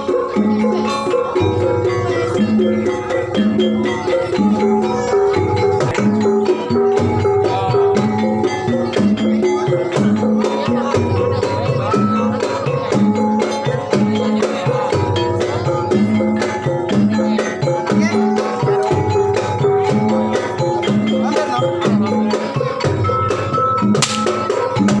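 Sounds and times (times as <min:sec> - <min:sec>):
gamelan music: 0:00.0 - 0:25.0.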